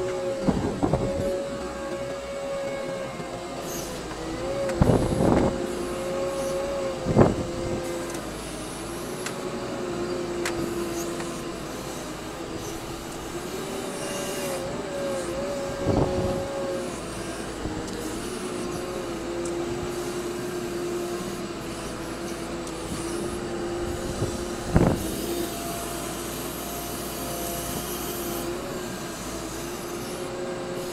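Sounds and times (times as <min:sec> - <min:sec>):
loader clunks and rattles: 0:00.0 - 0:30.7
two-note machine whine: 0:00.0 - 0:30.9
wheel loader running: 0:00.0 - 0:30.9.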